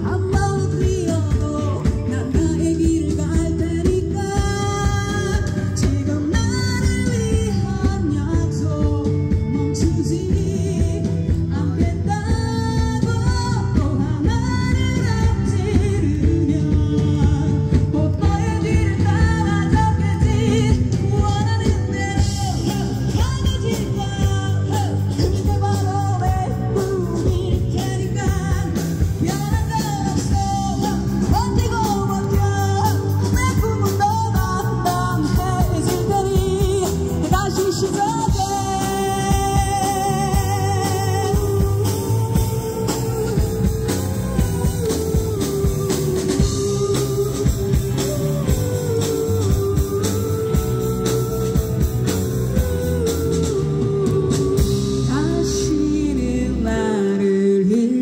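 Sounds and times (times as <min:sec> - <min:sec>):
live rock band playing: 0:00.0 - 0:58.0
person singing: 0:00.0 - 0:58.0.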